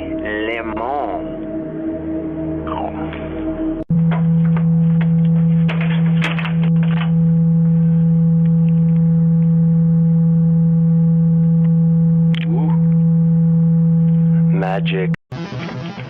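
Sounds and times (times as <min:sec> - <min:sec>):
loud steady low hum: 0:00.0 - 0:16.0.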